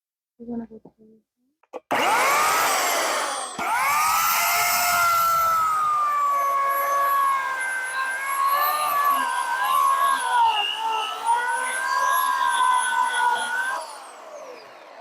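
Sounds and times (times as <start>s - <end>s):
electric chainsaw revving and cutting: 1.9s - 15.0s.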